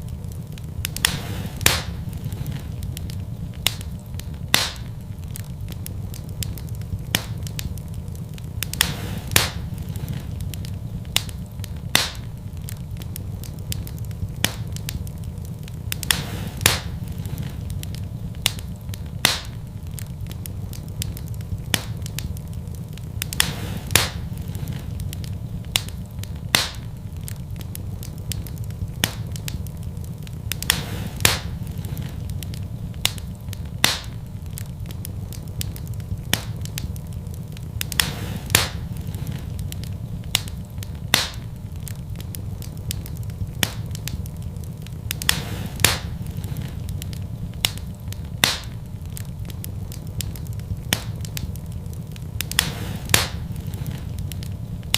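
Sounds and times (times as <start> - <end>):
fire crackling and popping: 0.0 - 54.9
low rumble of flames: 0.0 - 54.9.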